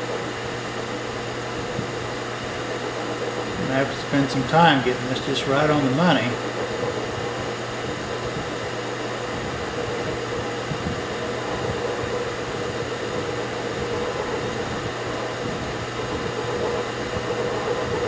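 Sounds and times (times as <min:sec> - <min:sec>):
milling machine motor humming: 0:00.0 - 0:18.0.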